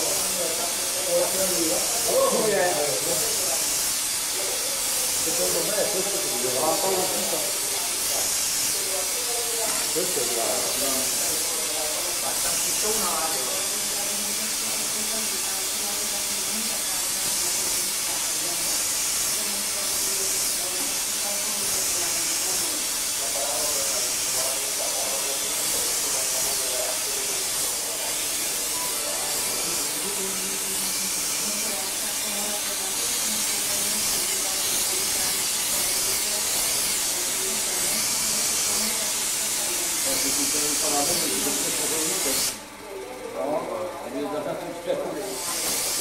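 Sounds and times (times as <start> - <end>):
gas burner flames hissing: 0.0 - 43.0, 45.2 - 46.0.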